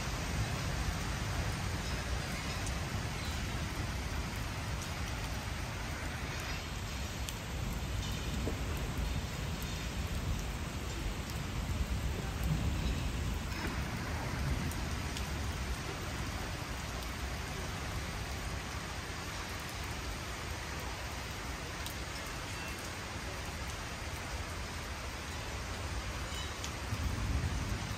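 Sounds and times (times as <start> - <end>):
rain on wet paving: 0.0 - 27.9.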